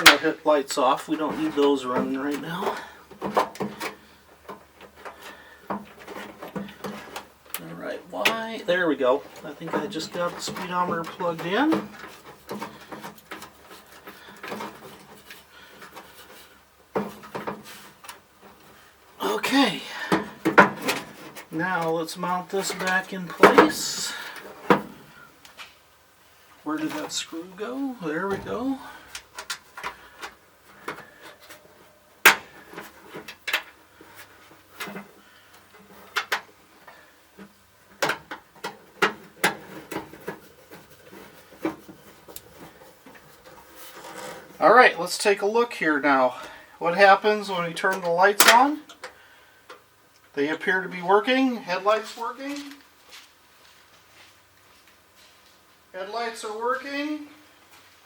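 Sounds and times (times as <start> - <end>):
parts being handled: 0.0 - 45.0, 51.9 - 55.9.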